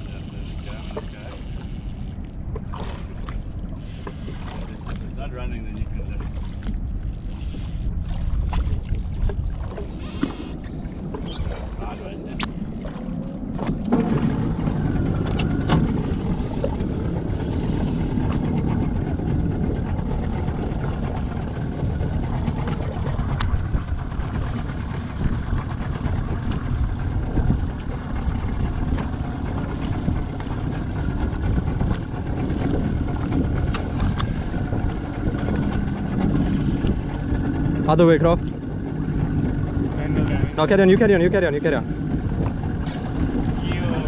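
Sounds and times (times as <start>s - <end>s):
boat engine rumble: 0.0s - 44.0s.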